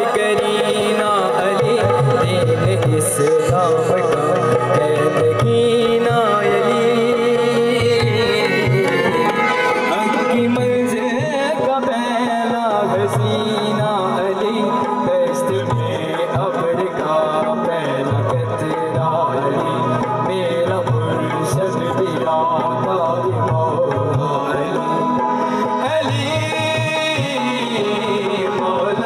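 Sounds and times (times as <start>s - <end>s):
man singing: 0.0s - 29.0s.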